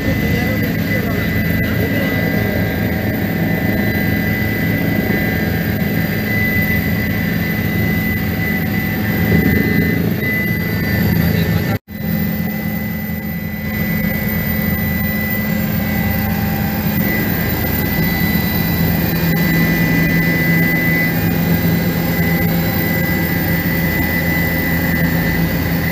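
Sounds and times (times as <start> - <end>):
helicopter engine and rotor: 0.0 - 25.9.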